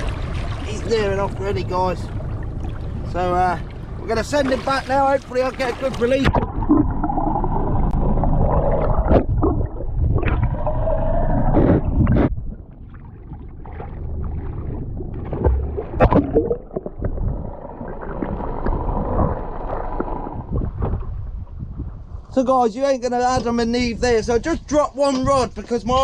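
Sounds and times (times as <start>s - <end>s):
water splashing and gurgling: 0.0s - 22.2s.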